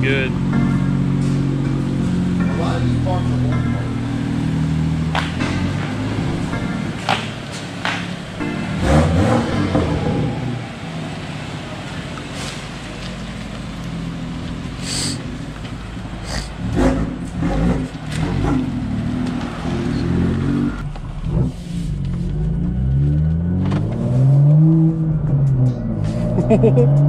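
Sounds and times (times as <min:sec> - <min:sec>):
car engine idling and revving: 0:00.0 - 0:27.0
car pulling away: 0:00.0 - 0:27.0.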